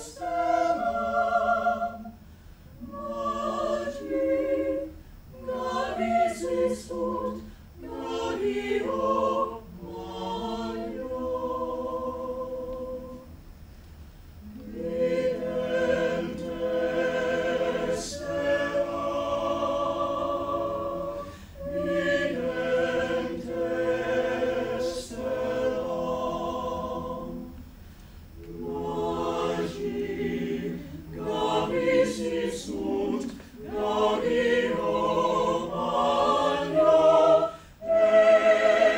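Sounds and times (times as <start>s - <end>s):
choir singing a cappella: 0.0s - 13.4s, 14.4s - 38.9s.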